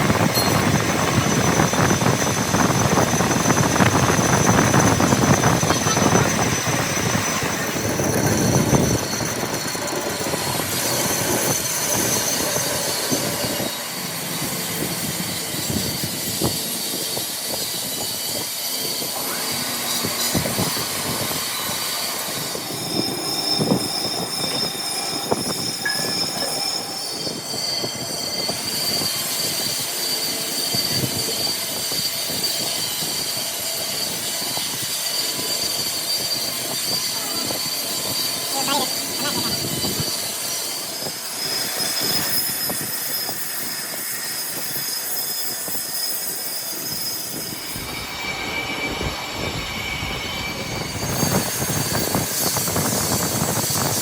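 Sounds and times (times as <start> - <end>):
high metallic squeal: 0.0 - 54.0.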